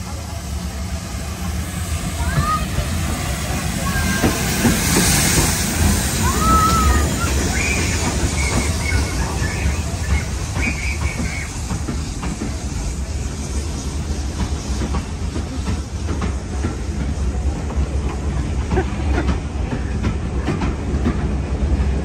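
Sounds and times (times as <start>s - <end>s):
train coaches rumbling past: 0.0s - 22.0s.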